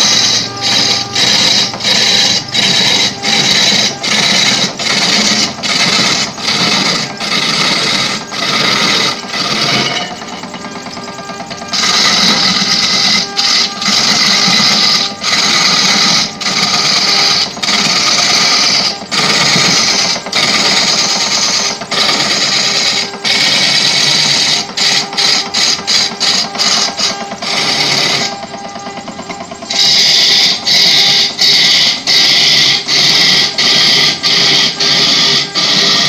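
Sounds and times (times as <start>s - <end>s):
faint motor hum: 0.0s - 36.0s
pad rubbing on spinning wood: 0.0s - 36.0s.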